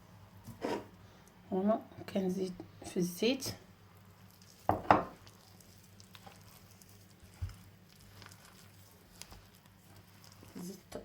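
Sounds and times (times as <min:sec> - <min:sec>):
soft patting and squishing dough: 0:02.1 - 0:11.0.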